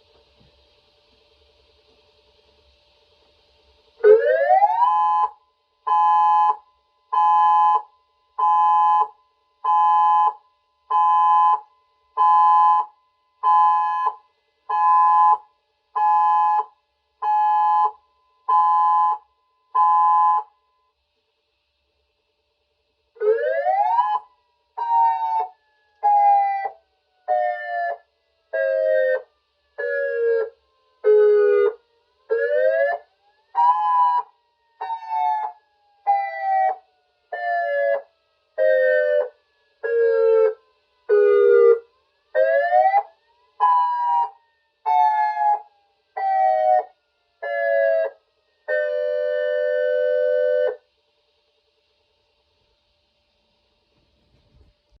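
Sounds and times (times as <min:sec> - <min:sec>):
pulsed dual-tone electronic siren: 0:04.0 - 0:20.9, 0:23.2 - 0:50.9.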